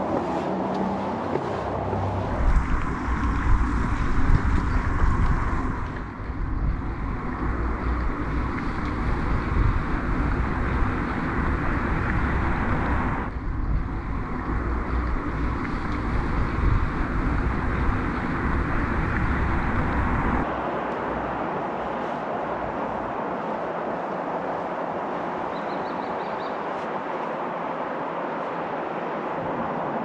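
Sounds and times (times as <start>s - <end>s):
steady rushing noise: 0.0s - 30.0s
wind buffeting microphone: 0.0s - 30.0s.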